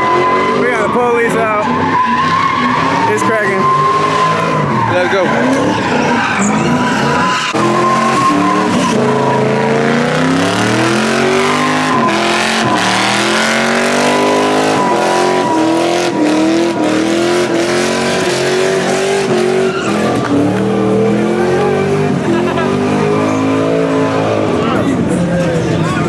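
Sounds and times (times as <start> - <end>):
engine revving: 0.0 - 26.0
tyres squealing: 0.0 - 26.0.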